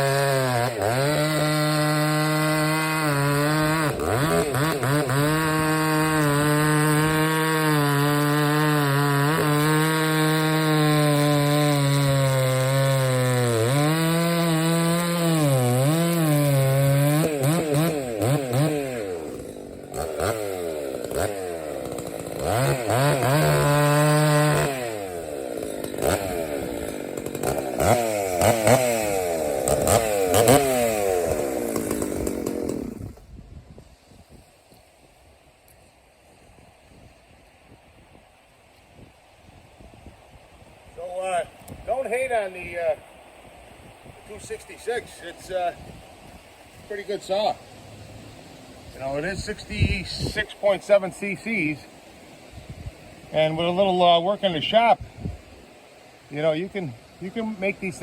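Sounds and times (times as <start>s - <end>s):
chainsaw cutting log: 0.0s - 37.1s, 38.7s - 58.0s.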